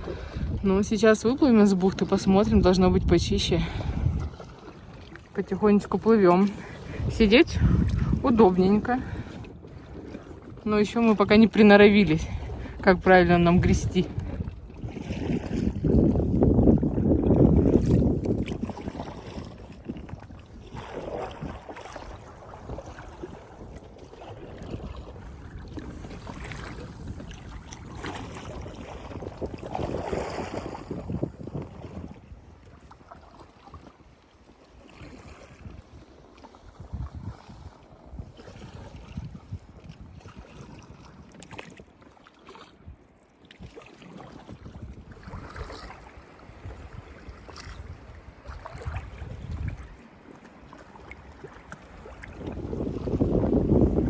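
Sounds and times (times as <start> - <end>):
wind rumbling on microphone: 0.0 - 42.0, 42.8 - 54.0
paddles splashing in water: 0.0 - 54.0.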